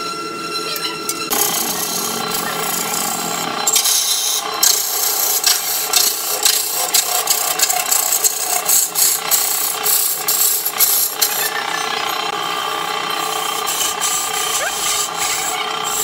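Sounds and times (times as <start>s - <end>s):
electric lathe motor hum: 0.0s - 16.0s
chisel scraping spinning wood: 1.2s - 12.3s, 13.1s - 16.0s.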